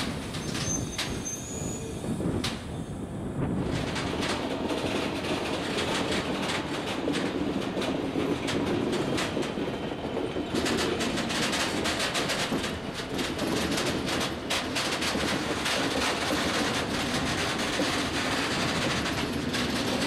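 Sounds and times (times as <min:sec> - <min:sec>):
train wheels clicking over rail joints: 0:00.0 - 0:02.7, 0:03.6 - 0:20.0
train rumble: 0:00.0 - 0:20.0.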